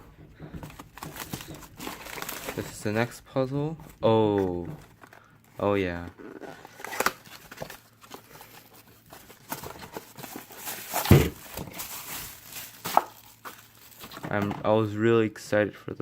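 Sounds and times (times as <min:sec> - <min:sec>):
packaging rustling: 0:00.5 - 0:03.2, 0:03.9 - 0:14.6.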